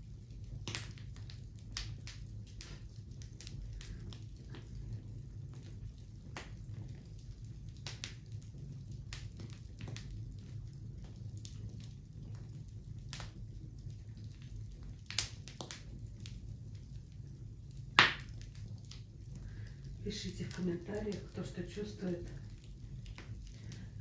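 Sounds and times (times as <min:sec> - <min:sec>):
fire crackling and popping: 0:00.0 - 0:24.0
low fire rumble: 0:00.0 - 0:24.0.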